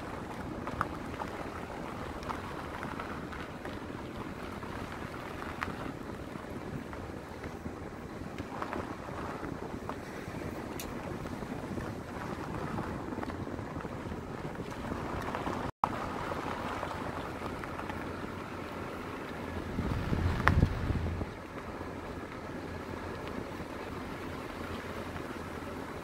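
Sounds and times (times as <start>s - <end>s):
vehicle driving on gravel: 0.0s - 26.0s.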